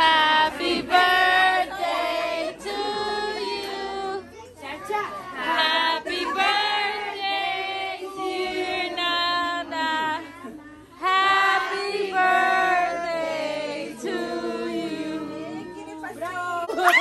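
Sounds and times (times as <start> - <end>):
group singing birthday song: 0.0 - 16.5.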